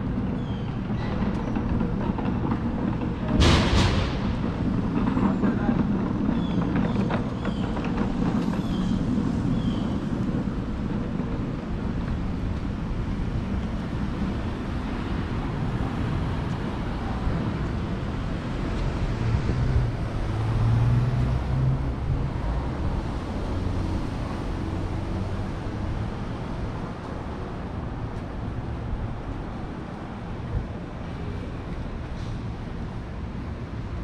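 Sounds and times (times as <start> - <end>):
road traffic hum: 0.0 - 34.0
vehicle passing rumble: 0.8 - 34.0.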